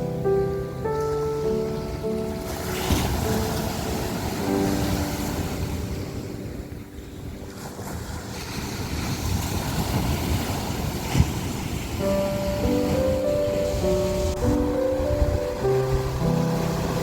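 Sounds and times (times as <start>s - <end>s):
ocean surf washing: 0.0s - 17.0s
wind rumbling on microphone: 0.0s - 17.0s.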